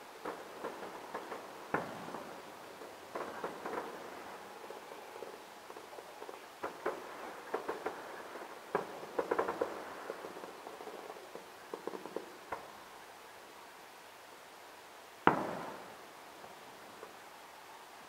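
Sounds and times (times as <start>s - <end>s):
distant fireworks popping and crackling: 0.0s - 13.1s, 15.2s - 17.4s.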